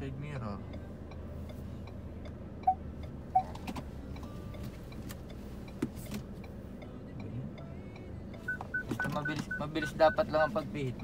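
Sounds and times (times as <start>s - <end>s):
light regular ticking: 0.0s - 11.0s.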